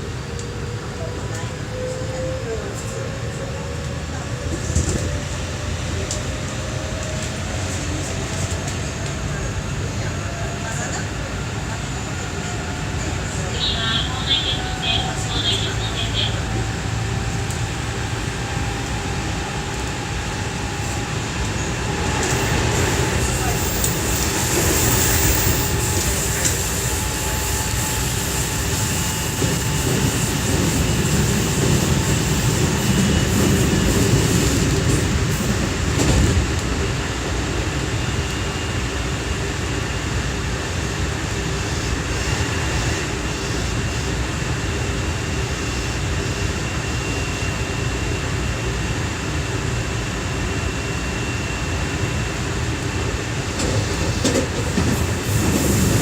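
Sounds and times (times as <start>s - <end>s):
train wheel and track rumble: 0.0s - 56.0s.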